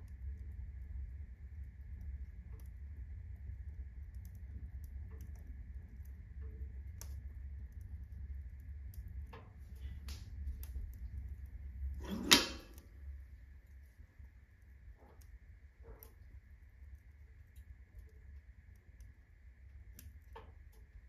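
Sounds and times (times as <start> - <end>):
fireplace draft rumble: 0.0 - 21.0
firewood crackling: 0.0 - 21.0.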